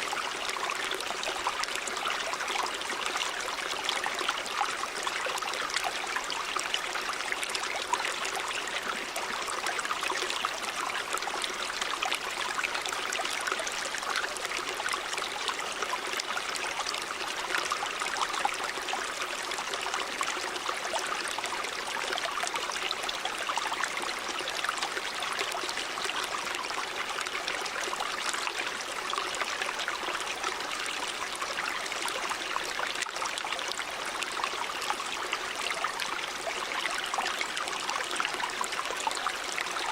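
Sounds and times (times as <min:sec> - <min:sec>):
stream water running over rocks: 0:00.0 - 0:39.9.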